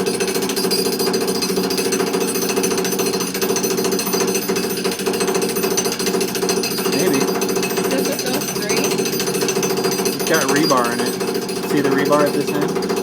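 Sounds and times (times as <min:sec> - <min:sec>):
jackhammer breaking concrete: 0:00.0 - 0:13.0.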